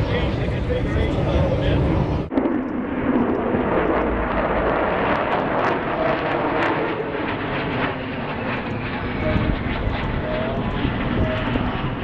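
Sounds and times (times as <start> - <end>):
jet bomber flying past overhead: 0.0 - 12.0.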